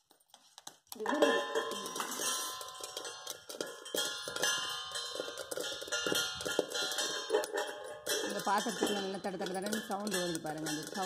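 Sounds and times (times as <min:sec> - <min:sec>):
grains popping in metal pan: 0:00.0 - 0:11.0.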